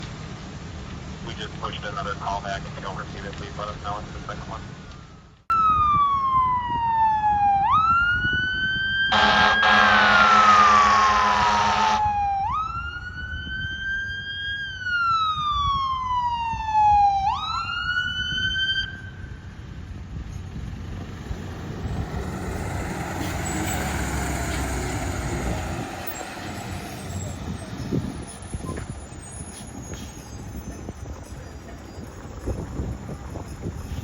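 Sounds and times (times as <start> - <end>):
road and traffic noise: 0.0 - 34.0
fire engine siren wailing: 4.6 - 34.0.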